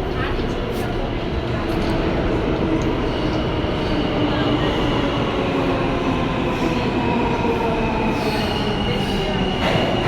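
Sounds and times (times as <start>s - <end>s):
train rumble and rattle: 0.0s - 10.0s.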